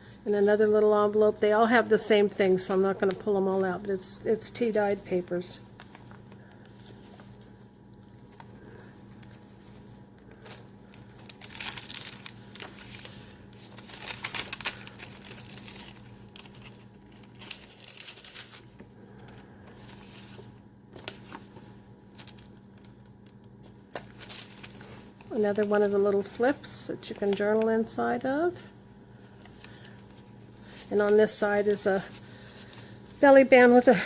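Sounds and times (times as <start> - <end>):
paper rustling and crinkling: 5.0 - 27.7, 29.2 - 34.0.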